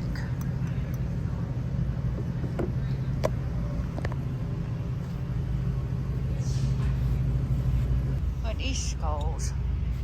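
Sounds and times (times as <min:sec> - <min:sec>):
low store room hum: 0:00.0 - 0:10.0.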